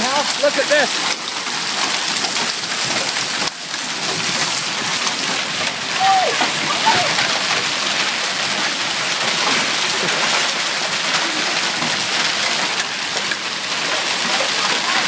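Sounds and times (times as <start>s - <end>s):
heavy rain and hail pelting: 0.0s - 15.0s.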